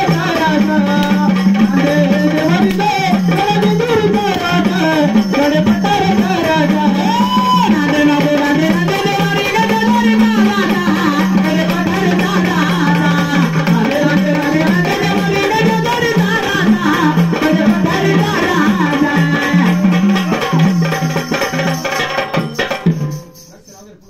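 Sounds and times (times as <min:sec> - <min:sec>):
drum rhythm: 0:00.0 - 0:24.0.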